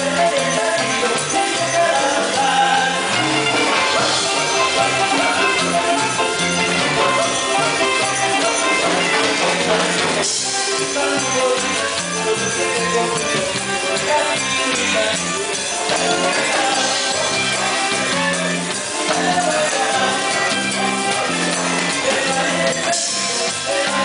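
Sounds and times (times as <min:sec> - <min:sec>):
live band playing latin dance music: 0:00.0 - 0:24.0
alto saxophone: 0:00.2 - 0:23.2.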